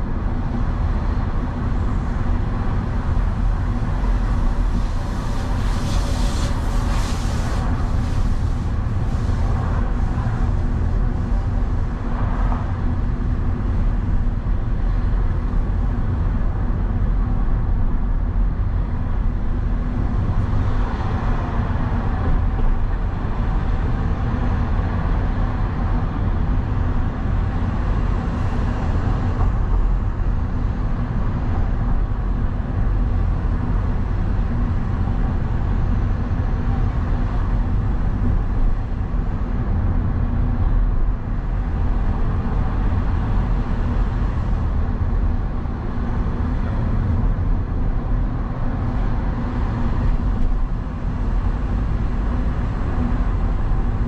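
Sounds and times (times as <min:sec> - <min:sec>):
traffic noise: 0:00.0 - 0:54.0
vehicle engine and road rumble: 0:00.0 - 0:54.0.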